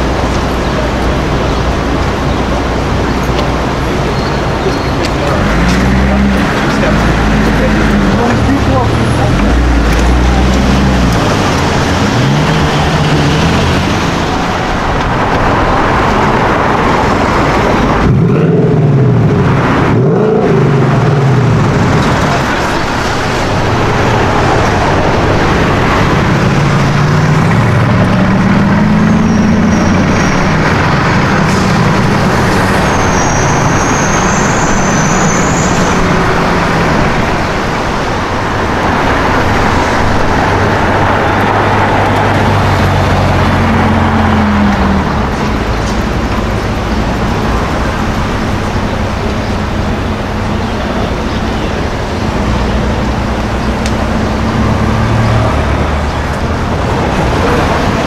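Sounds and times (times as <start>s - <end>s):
car engines idling and revving: 0.0s - 58.0s
sports car engine creeping: 0.0s - 58.0s.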